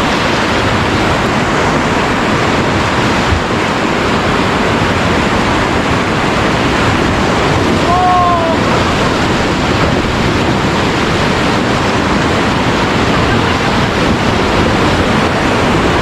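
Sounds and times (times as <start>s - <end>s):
river whitewater rushing: 0.0s - 16.0s.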